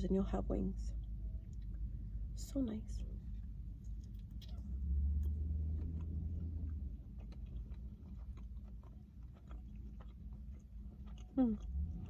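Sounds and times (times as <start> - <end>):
low rumble: 0.0 - 12.0
chewing with wet mouth clicks: 1.0 - 2.2, 3.0 - 12.0.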